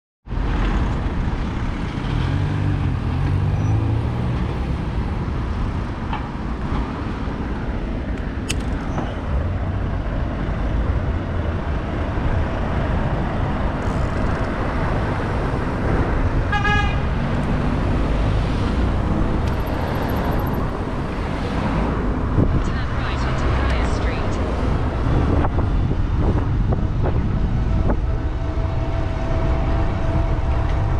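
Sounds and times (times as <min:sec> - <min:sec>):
road traffic: 0:00.2 - 0:30.9
passing vehicle engines: 0:00.3 - 0:30.9
wind noise: 0:00.3 - 0:30.9.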